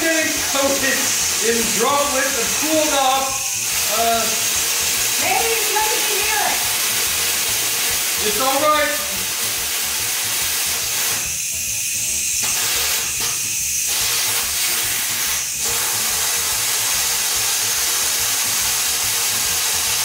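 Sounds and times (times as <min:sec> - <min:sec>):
steam venting with loud hiss: 0:00.0 - 0:20.0.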